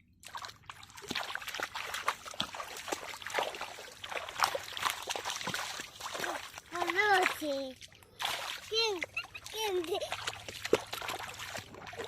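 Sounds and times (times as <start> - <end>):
muddy water splashing and trickling: 0.0 - 12.0.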